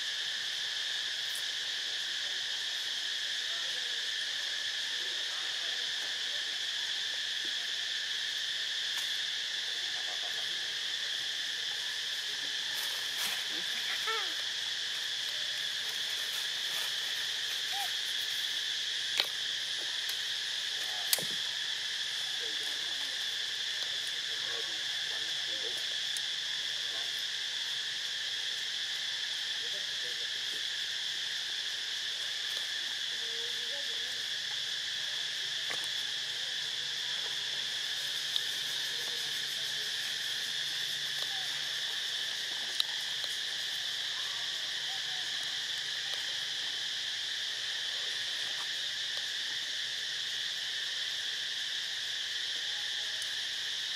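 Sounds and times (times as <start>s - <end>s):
insects chorus drone: 0.0s - 53.9s.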